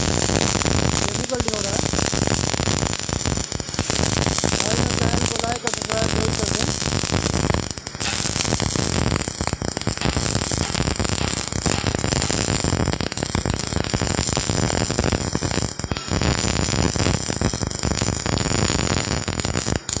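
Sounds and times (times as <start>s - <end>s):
welding arc crackling: 0.0s - 20.0s.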